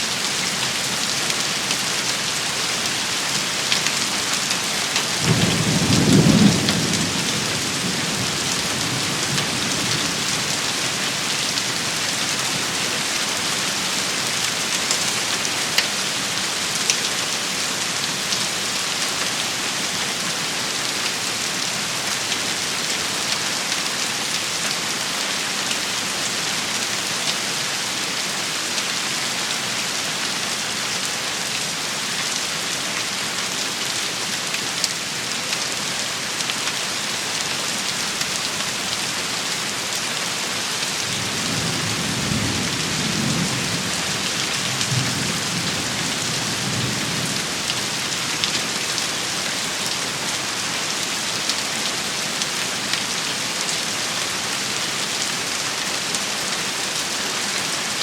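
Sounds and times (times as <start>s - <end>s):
rain hissing and pattering: 0.0s - 58.0s.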